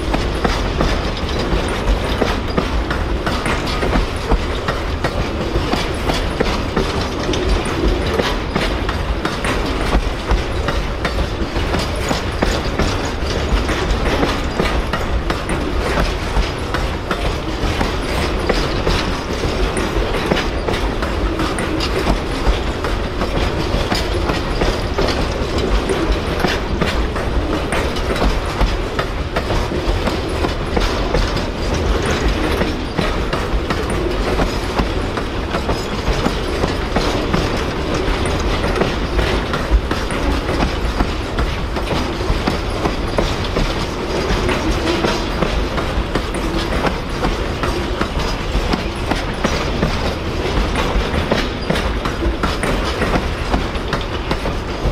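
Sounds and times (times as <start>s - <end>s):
clickety-clack of wheels: 0.0s - 54.9s
train wheels rumbling on rails: 0.0s - 54.9s.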